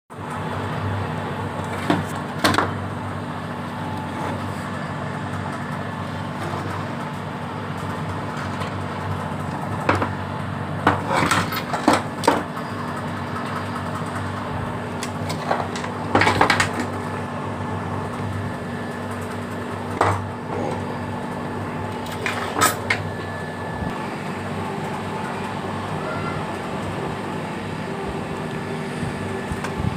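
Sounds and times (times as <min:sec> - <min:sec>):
welding machine electrical hum: 0:00.1 - 0:29.9.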